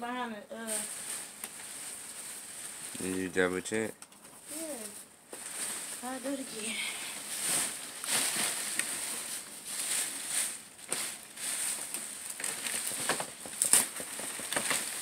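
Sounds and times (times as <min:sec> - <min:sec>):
gift packaging rustling and tearing: 0:00.6 - 0:15.0.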